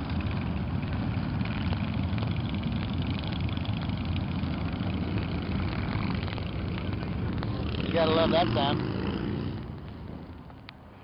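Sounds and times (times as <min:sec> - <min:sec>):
motorcycles idling: 0:00.0 - 0:11.0.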